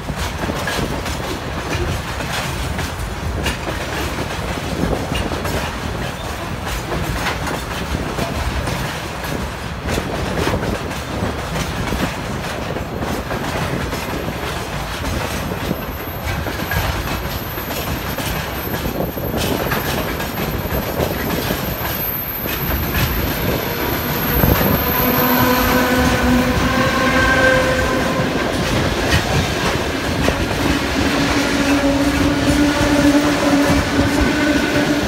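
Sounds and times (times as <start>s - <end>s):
freight train rumbling past: 0.0s - 35.0s
wheel clatter over rail joints: 0.0s - 35.0s.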